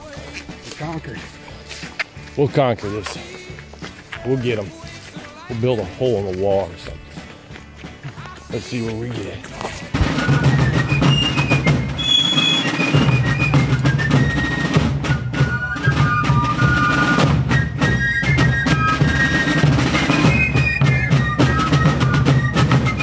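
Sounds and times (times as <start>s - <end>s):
drums beating: 0.0s - 23.0s
fifes playing melody: 0.0s - 23.0s.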